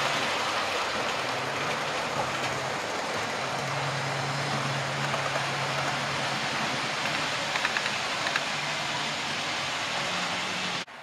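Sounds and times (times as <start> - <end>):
model train wheels rumbling on rail: 0.0 - 11.0.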